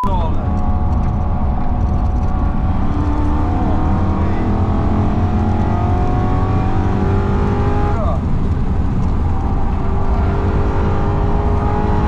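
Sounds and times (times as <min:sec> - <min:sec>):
car engine at full throttle: 0:00.0 - 0:12.0
road and wind rumble: 0:00.0 - 0:12.0.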